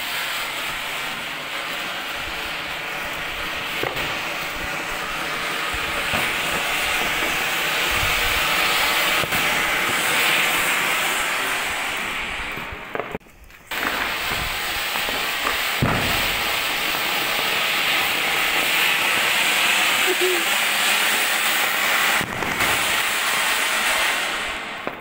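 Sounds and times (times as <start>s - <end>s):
firework crackles: 0.0s - 25.0s
firework fountain hissing: 0.0s - 25.0s.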